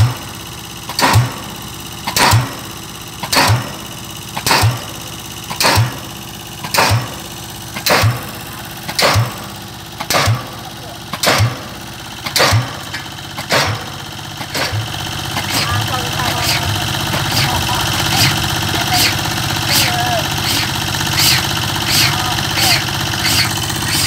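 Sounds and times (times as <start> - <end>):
machine engine running: 0.0 - 24.0
pile-driving hammer blows: 0.9 - 3.8, 4.4 - 6.0, 6.6 - 7.2, 7.8 - 24.0.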